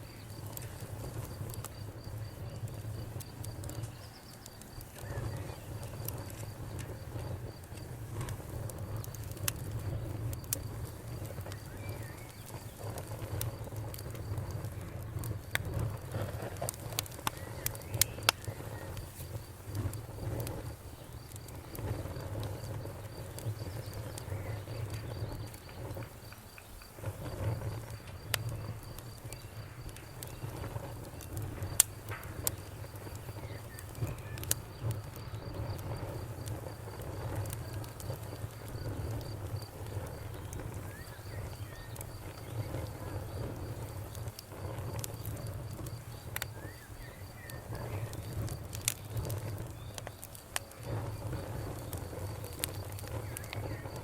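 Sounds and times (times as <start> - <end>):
bonfire crackling: 0.0 - 54.0
cricket chirping: 0.0 - 54.0.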